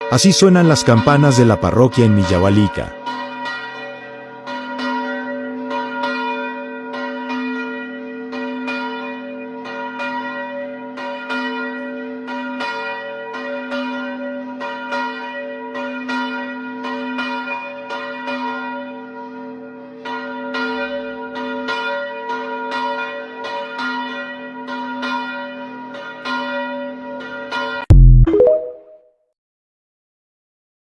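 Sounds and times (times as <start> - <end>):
church bells ringing rapidly: 0.0 - 27.8.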